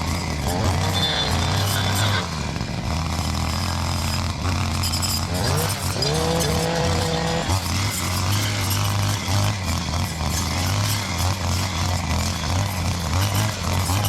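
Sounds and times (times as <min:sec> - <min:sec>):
engine running and revving: 0:00.0 - 0:14.0.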